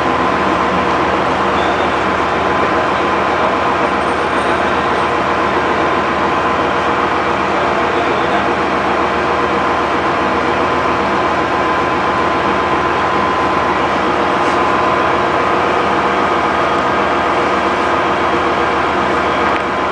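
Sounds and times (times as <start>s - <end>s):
ship machinery droning: 0.0s - 19.9s.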